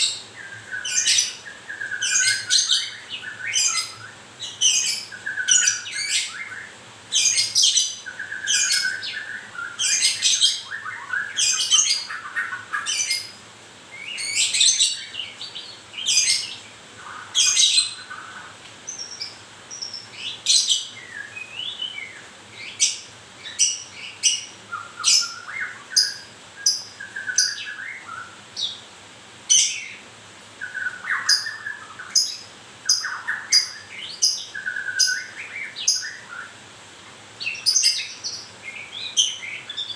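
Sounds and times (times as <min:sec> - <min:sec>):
bird chirping and warbling: 0:00.0 - 0:13.4, 0:14.0 - 0:28.8, 0:30.6 - 0:36.6, 0:37.4 - 0:39.9.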